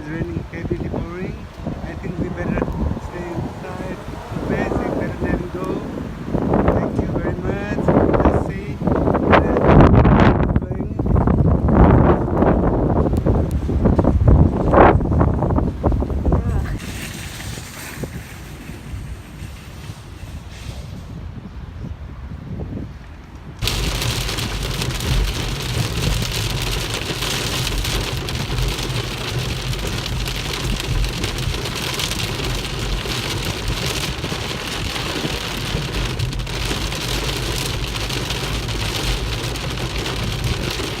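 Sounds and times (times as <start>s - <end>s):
heavy rain pouring: 0.0s - 19.3s, 23.6s - 41.0s.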